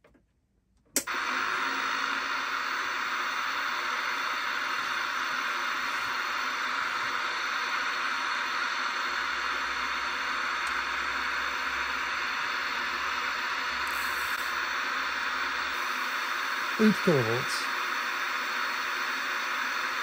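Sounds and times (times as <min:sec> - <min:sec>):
television static hiss: 0:01.1 - 0:20.0.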